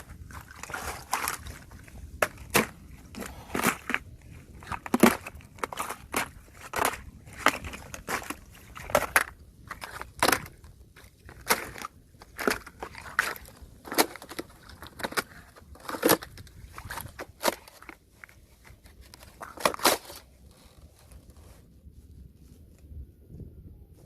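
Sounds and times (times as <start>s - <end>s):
ice crunching and cracking: 0.0s - 21.7s.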